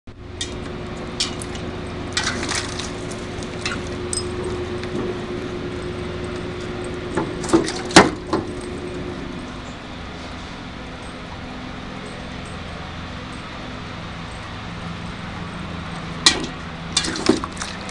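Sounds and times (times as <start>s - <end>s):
steady hum: 0.1s - 17.9s.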